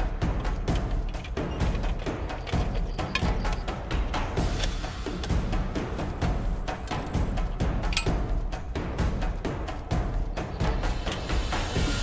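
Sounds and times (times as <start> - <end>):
dramatic music with heavy drums: 0.0 - 12.0.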